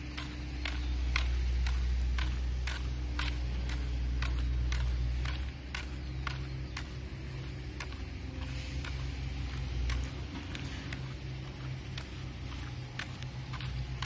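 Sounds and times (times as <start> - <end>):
footsteps on pavement: 0.0 - 14.0
steady low rumble: 0.0 - 14.0.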